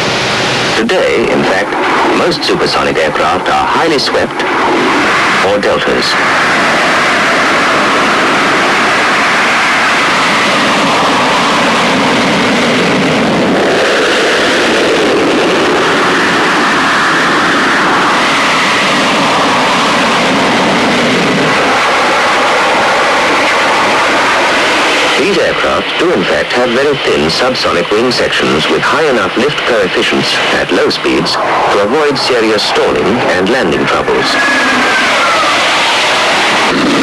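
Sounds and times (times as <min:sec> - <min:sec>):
jet aircraft engine noise: 0:00.0 - 0:37.0.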